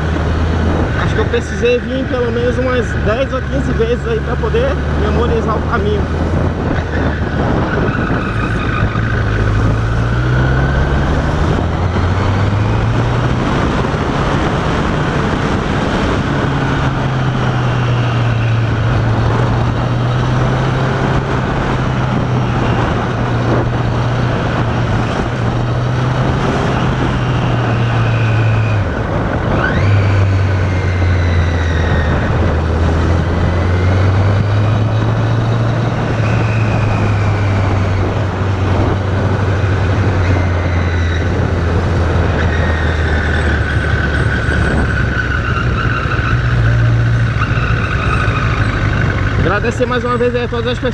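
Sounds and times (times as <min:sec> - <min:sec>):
wind noise on microphone: 0:00.0 - 0:49.6
road noise: 0:00.0 - 0:50.9.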